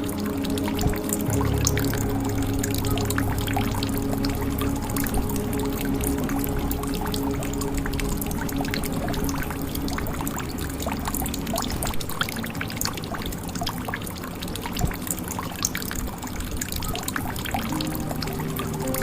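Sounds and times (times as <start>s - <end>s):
water dripping into a jug: 0.0s - 19.0s.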